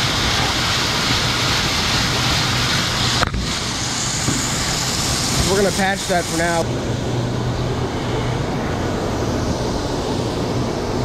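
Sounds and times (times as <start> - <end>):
grain conveyor machinery running: 0.0 - 11.0
low machine hum: 0.0 - 11.0.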